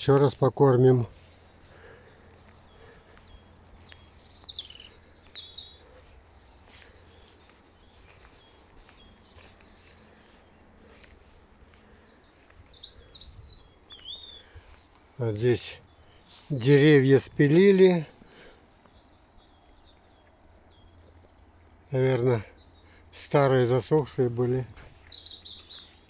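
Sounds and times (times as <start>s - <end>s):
songbirds calling and singing: 0.0s - 26.0s.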